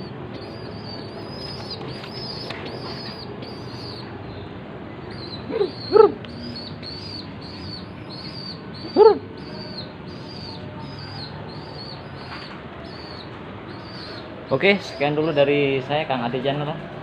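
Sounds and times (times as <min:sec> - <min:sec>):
young pigeons squeaky calls: 0:00.0 - 0:15.6.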